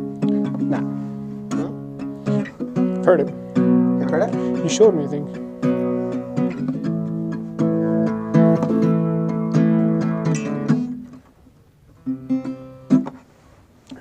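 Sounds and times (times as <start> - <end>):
guitar strummed chords: 0.0 - 13.3.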